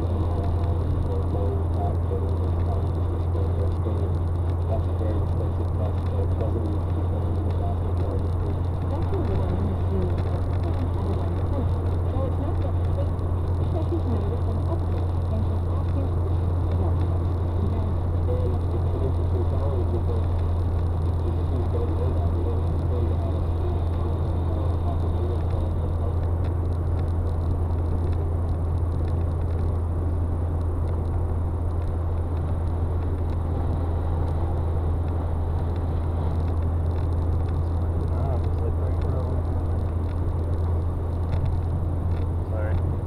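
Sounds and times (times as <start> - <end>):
car interior road and engine hum: 0.0 - 43.0.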